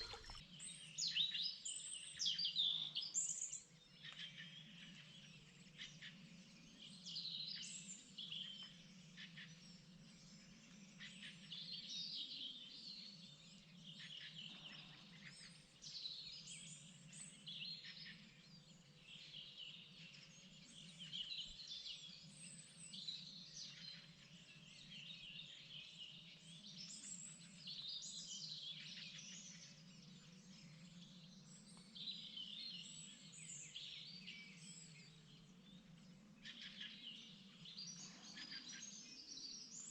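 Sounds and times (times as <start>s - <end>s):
songbirds chirping and trilling: 1.5s - 39.9s.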